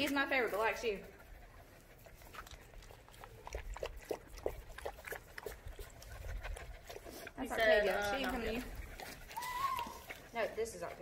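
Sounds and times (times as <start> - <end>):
puppy making soft sounds: 0.7 - 11.0.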